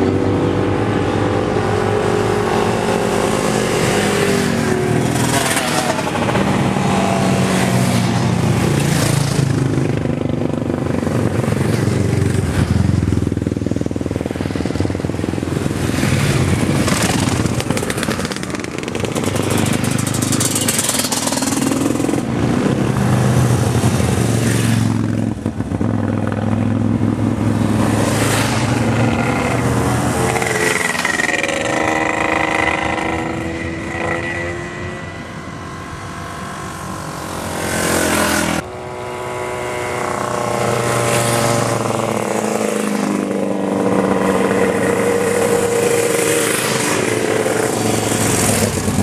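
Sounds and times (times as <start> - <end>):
motorcycle engines revving past: 0.0 - 49.0.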